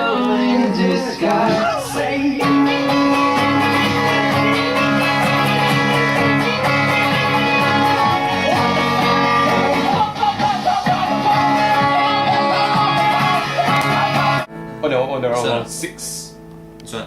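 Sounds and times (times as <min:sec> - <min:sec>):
guitar plucked and strummed: 0:00.0 - 0:17.0.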